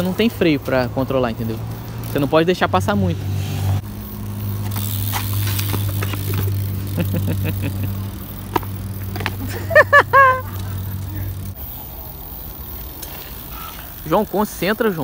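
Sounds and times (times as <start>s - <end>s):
bikes rolling on concrete: 0.0s - 15.0s.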